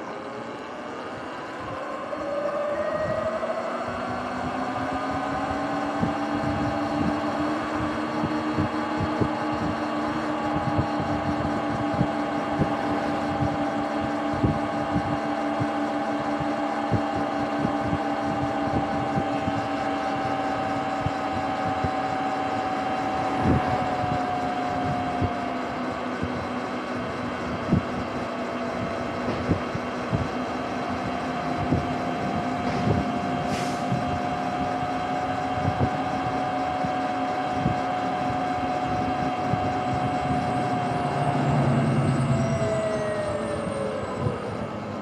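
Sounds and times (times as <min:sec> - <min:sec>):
wind on microphone: 0:01.6 - 0:45.0.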